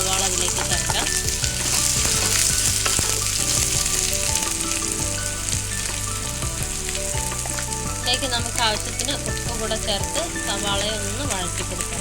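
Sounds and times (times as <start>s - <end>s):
onion sizzling in oil: 0.0s - 12.0s
spatula stirring in a pan: 0.0s - 12.0s.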